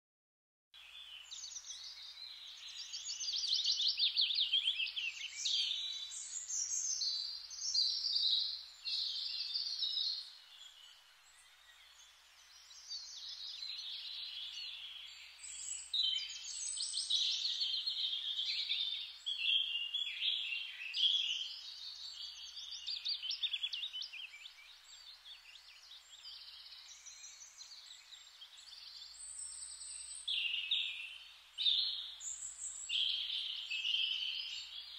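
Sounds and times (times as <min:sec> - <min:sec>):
songbirds chirping and trilling: 0:00.8 - 0:34.9.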